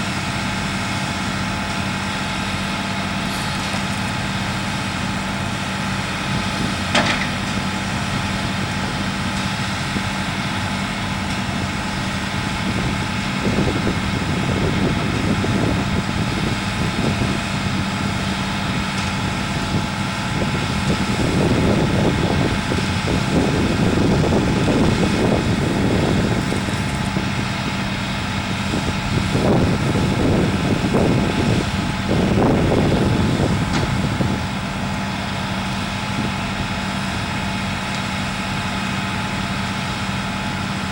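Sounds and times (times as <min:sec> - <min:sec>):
heavy diesel engines running: 0:00.0 - 0:40.9
highway traffic: 0:00.0 - 0:40.9.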